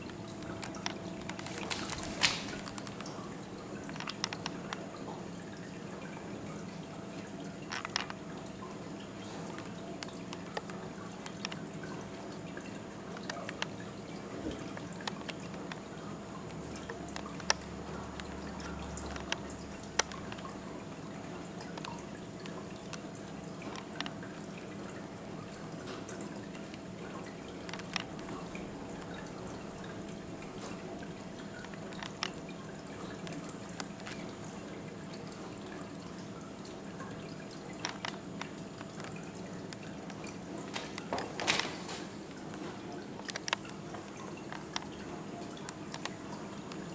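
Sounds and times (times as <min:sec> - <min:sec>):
water trickling and dripping: 0:00.0 - 0:46.9.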